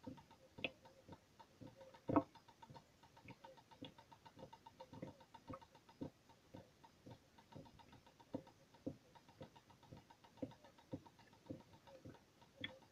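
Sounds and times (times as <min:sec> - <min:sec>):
water drops ticking on metal: 0:00.0 - 0:12.9.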